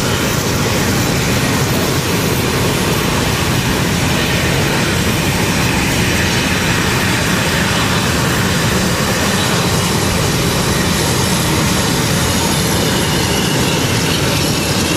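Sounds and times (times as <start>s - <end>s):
jet engines at taxi power: 0.0s - 14.9s.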